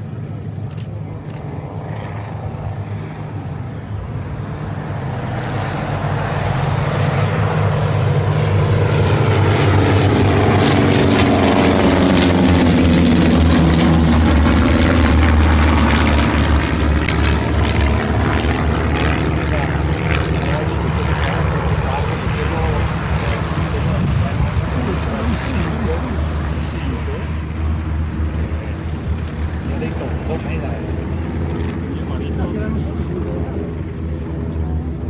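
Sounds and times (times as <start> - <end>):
propeller plane flying past: 0.0 - 35.0.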